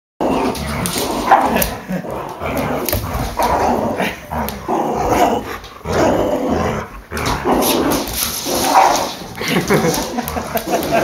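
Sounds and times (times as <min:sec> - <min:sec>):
puppies play-growling: 0:00.2 - 0:11.0.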